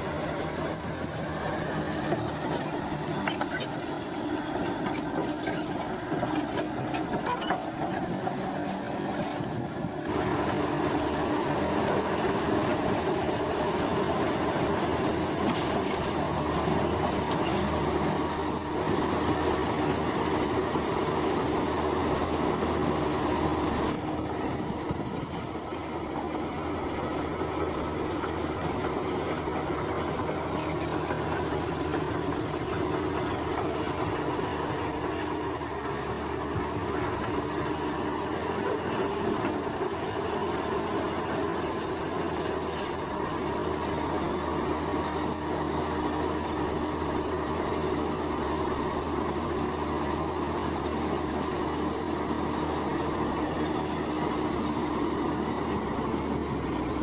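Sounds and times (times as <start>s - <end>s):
bulldozer diesel engine running: 0.0s - 57.0s
crawler tracks grinding and squealing: 0.0s - 57.0s.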